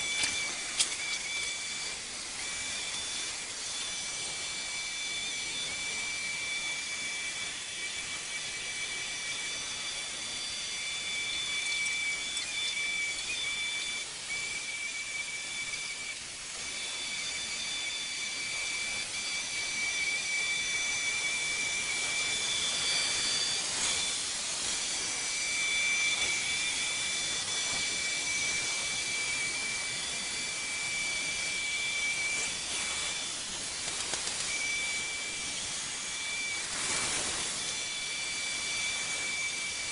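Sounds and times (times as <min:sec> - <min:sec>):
robotic vacuum running: 0:00.0 - 0:39.9.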